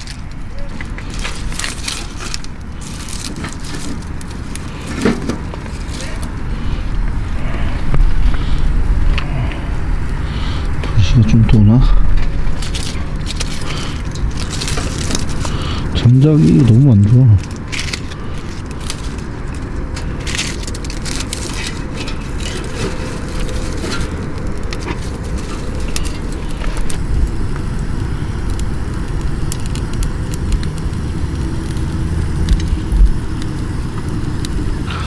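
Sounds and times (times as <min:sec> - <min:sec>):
firewood crackling and popping: 0:00.0 - 0:35.0
steady low rumble: 0:00.0 - 0:35.0.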